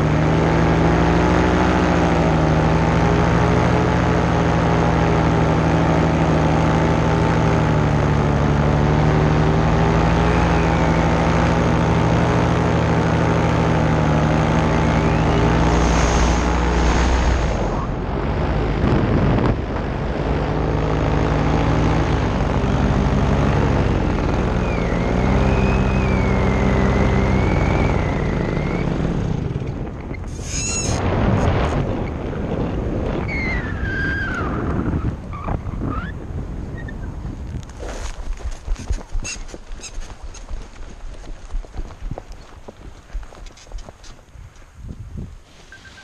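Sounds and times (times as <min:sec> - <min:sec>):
paramotor engine and propeller: 0:00.0 - 0:46.0.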